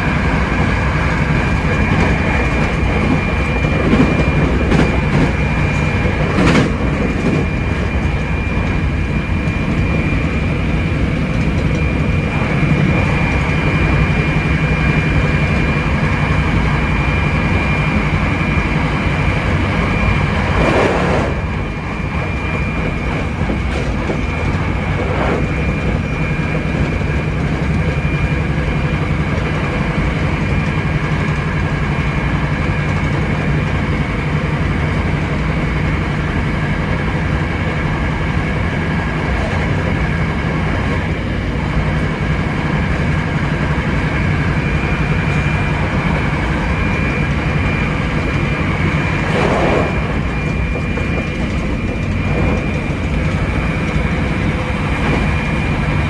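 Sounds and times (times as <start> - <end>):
electric train running noise: 0.0 - 56.0.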